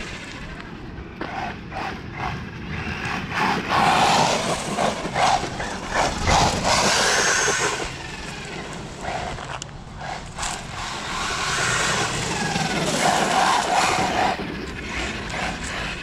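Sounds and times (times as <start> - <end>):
rc truck motor in bursts: 0.0 - 16.0.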